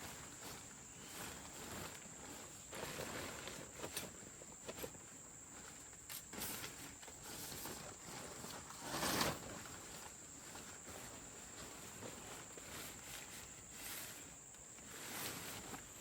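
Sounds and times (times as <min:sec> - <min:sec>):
insects droning: 0:00.0 - 0:16.0
rustling: 0:00.0 - 0:16.0.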